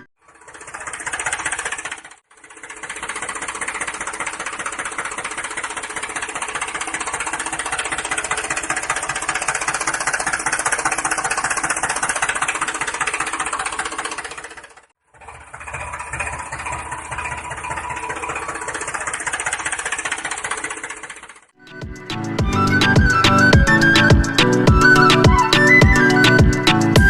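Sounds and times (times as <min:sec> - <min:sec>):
small motor knocking rhythmically: 0:00.0 - 0:27.0.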